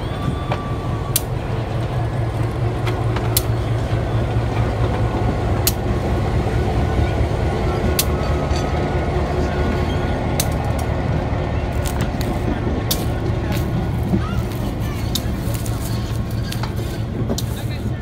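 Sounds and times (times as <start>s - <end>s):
locomotive engine rumbling: 0.0s - 18.0s.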